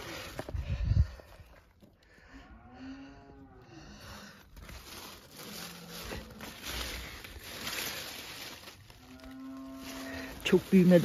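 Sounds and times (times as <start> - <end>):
rustling leafy plants: 0.0 - 11.0.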